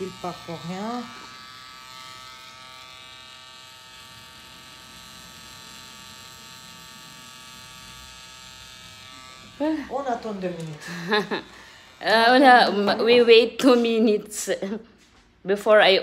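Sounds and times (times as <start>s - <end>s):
tattoo pen machine buzzing: 0.0s - 13.9s.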